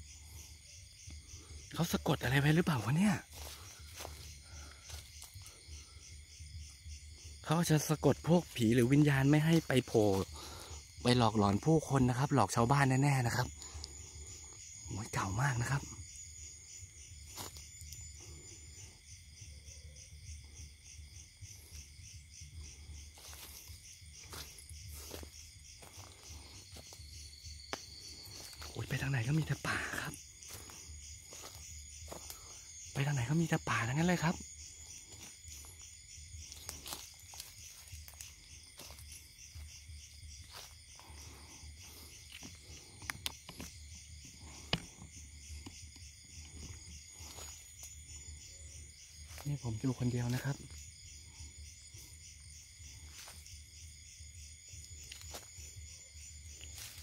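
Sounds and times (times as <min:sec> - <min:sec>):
crickets chirping: 0:00.0 - 0:57.0
insects trilling: 0:00.0 - 0:57.0.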